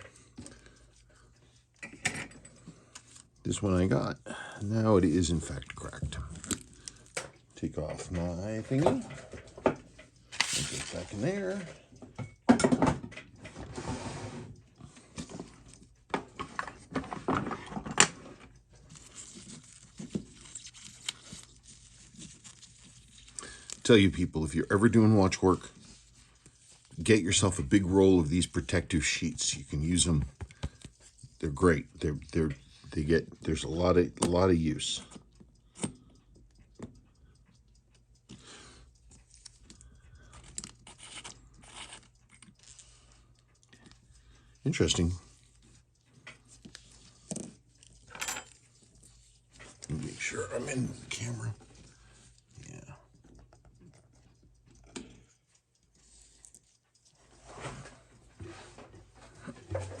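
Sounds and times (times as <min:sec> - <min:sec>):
small clicks and scrapes: 0:00.0 - 0:04.1, 0:05.0 - 1:00.0.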